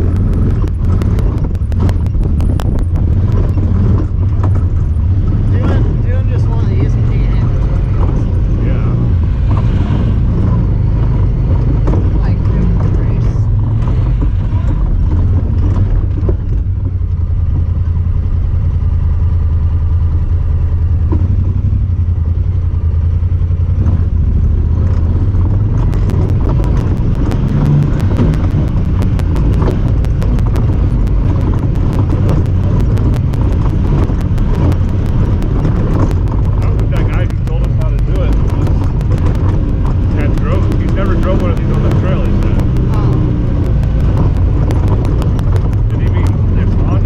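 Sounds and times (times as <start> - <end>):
rapid continuous ticking: 0.0 - 19.0, 22.0 - 47.0
vehicle engine running: 0.0 - 47.0.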